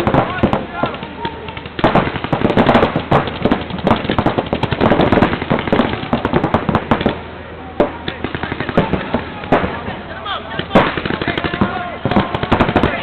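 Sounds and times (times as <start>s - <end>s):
paintball markers firing: 0.0s - 7.2s, 7.8s - 9.8s, 10.5s - 13.0s.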